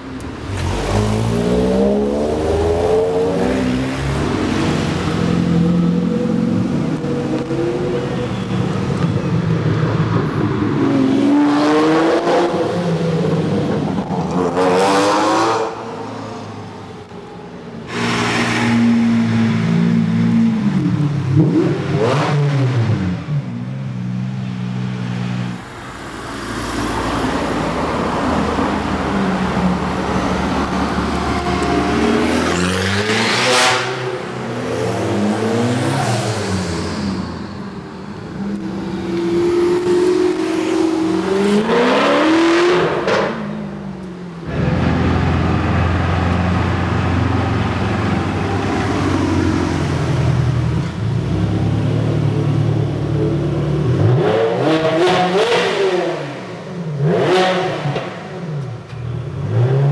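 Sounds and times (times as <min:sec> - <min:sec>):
sports cars revving and accelerating: 0:00.2 - 0:16.6, 0:17.8 - 0:24.1, 0:26.3 - 0:59.9.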